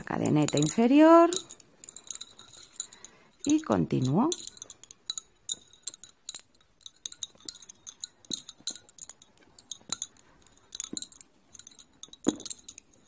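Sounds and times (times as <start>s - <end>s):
lace bobbins clicking: 0.0s - 13.0s.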